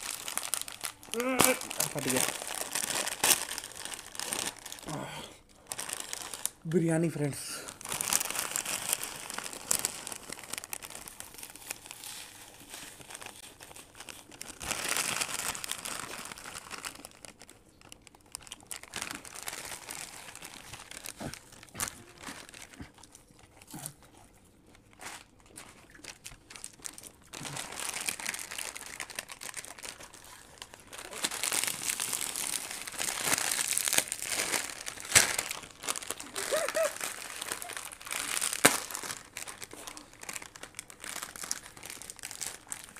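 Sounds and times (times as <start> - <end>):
chips crunching: 0.0 - 4.9, 7.8 - 42.9
foil packets crinkling: 0.0 - 42.9.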